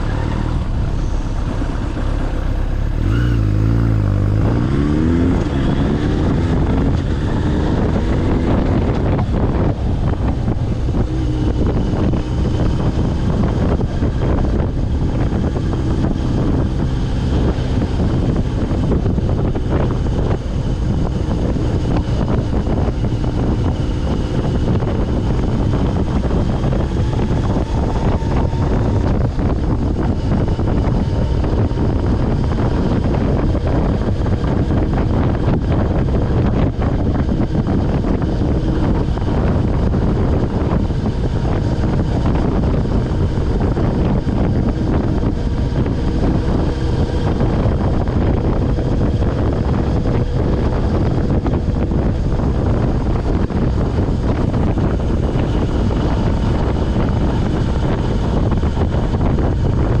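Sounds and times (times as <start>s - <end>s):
motorcycle engine running: 0.0s - 60.0s
wind rush over microphone: 0.0s - 60.0s.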